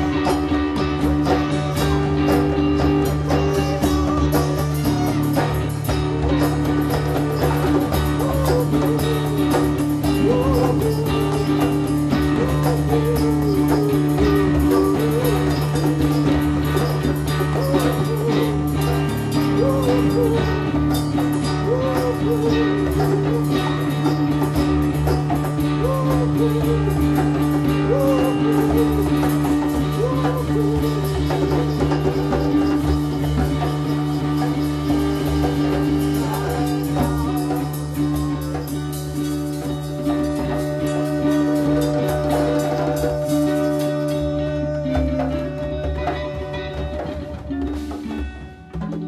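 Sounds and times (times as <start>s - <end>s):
wavering bending melody: 0.0s - 48.9s
jam band music: 0.0s - 49.0s.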